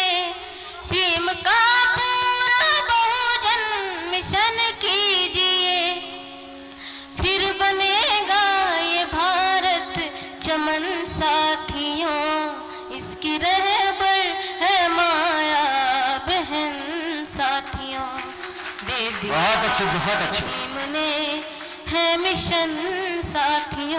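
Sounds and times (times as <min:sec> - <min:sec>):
boy singing: 0:00.0 - 0:06.2, 0:07.2 - 0:18.2, 0:18.8 - 0:23.9
held accompaniment notes: 0:04.0 - 0:23.4.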